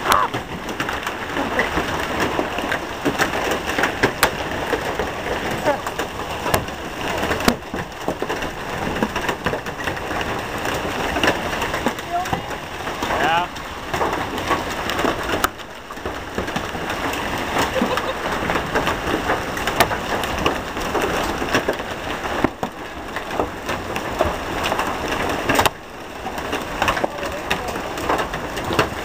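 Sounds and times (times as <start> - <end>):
heavy rain hiss: 0.0 - 29.0
rain crackling on microphone: 0.0 - 29.0.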